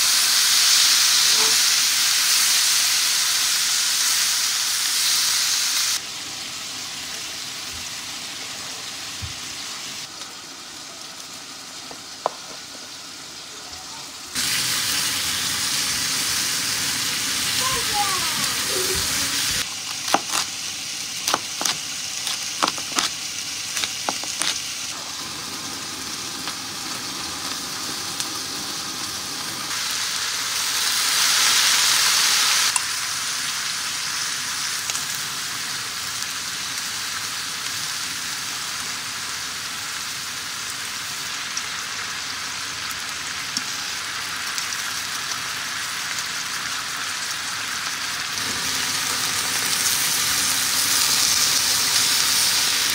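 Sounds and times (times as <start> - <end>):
food sizzling in a frying pan: 0.0 - 52.9.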